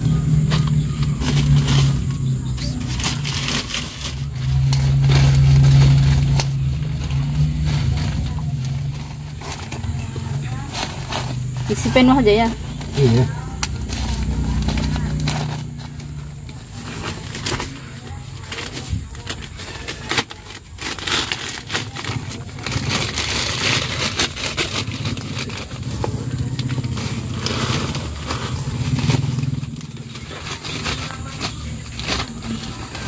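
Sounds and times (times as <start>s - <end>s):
plastic bags crinkling: 0.0s - 33.0s.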